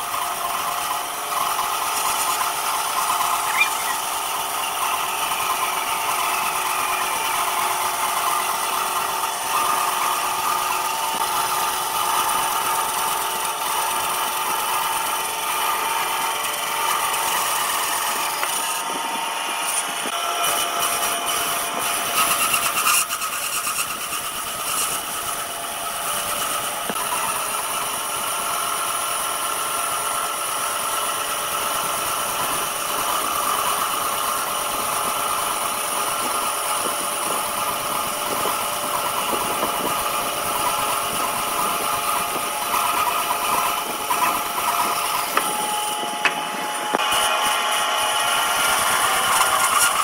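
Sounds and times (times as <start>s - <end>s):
power tool motor whining: 0.0s - 50.0s.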